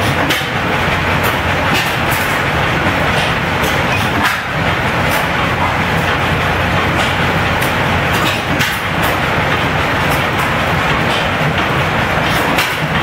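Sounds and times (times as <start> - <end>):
machinery clattering: 0.0 - 13.0.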